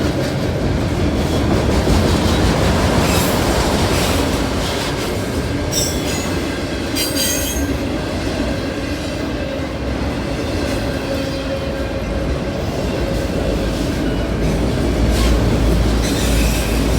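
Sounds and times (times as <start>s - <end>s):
freight train wheels rumbling on rail: 0.0s - 16.9s.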